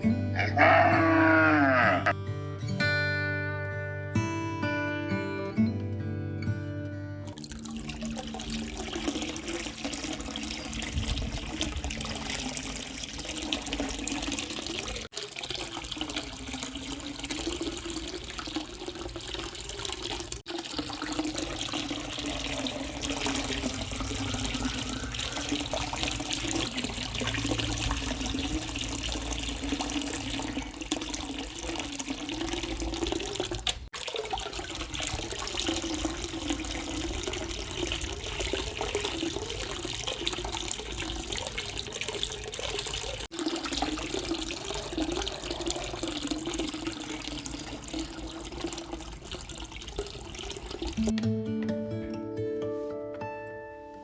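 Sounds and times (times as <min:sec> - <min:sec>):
water running and splashing: 0:07.3 - 0:51.1.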